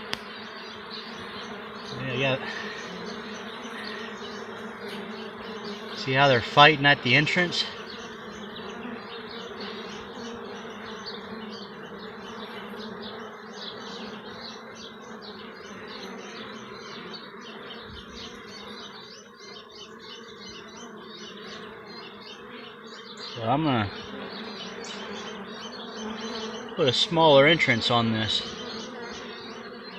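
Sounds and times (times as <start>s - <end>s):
bees buzzing in a swarm: 0.0s - 29.9s.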